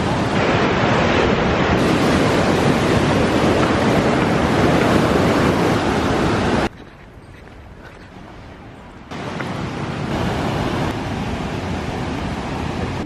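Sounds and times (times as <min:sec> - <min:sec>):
waterfall rushing: 0:00.0 - 0:06.7, 0:09.1 - 0:13.0.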